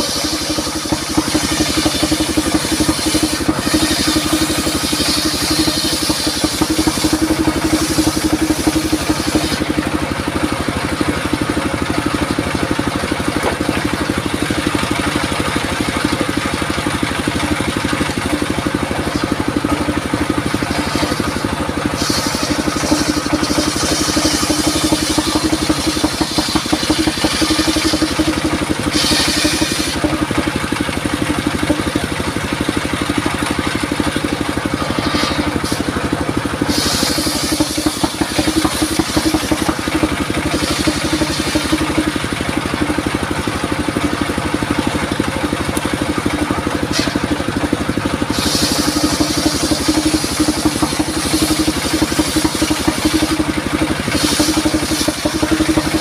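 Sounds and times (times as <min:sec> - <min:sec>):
engine-driven circular saw running: 0:00.0 - 0:56.0
saw blade cutting wood: 0:00.0 - 0:56.0.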